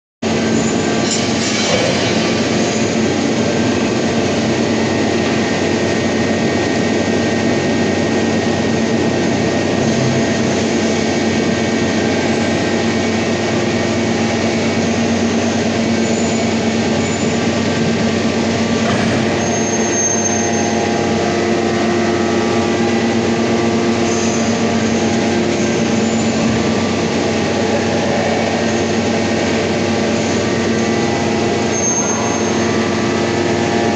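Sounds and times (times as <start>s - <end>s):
industrial machinery droning: 0.2s - 33.9s.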